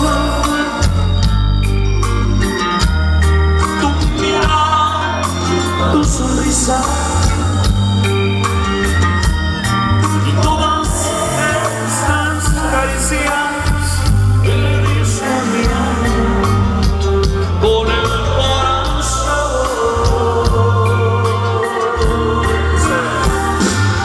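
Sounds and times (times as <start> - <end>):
crowd singing along: 0.0 - 24.0
live band music over loudspeakers: 0.0 - 24.0
steady drum beat: 0.0 - 24.0.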